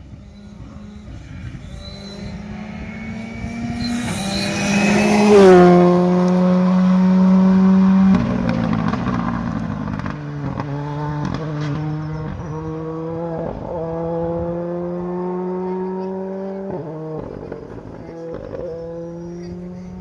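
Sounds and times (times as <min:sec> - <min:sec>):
rally car passing at full throttle: 0:00.0 - 0:20.0.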